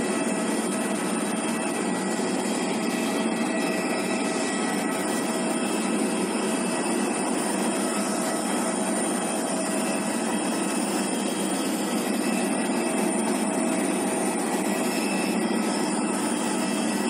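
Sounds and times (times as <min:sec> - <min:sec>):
jet turbine whining: 0:00.0 - 0:17.0.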